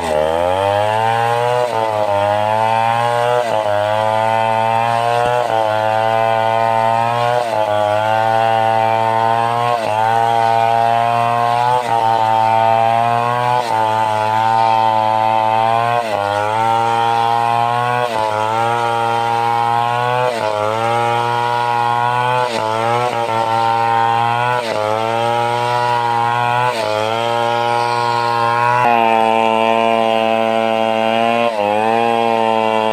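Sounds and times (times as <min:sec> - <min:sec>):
chainsaw cutting timber: 0:00.0 - 0:32.9.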